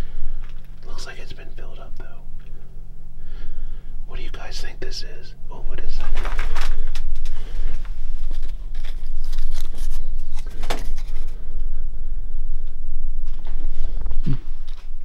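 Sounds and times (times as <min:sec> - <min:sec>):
low hum with even tones: 0:00.0 - 0:15.0.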